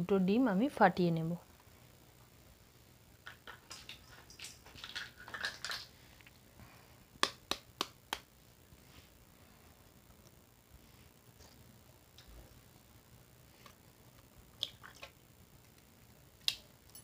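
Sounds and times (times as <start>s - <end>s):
eggs crackling and rustling: 1.6s - 16.9s.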